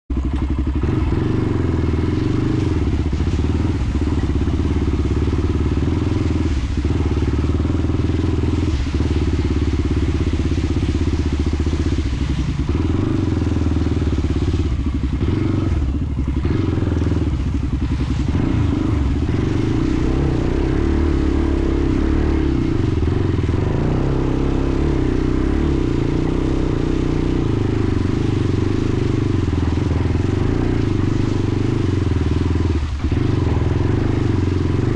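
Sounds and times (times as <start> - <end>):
atv engine under throttle: 0.1 - 34.9.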